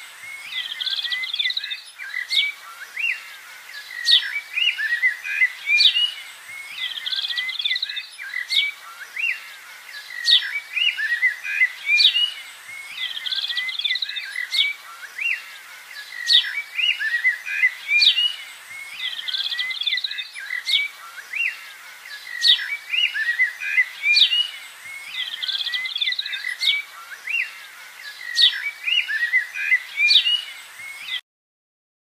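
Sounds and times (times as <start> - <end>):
bird chirps and whistled notes: 0.0 - 31.2.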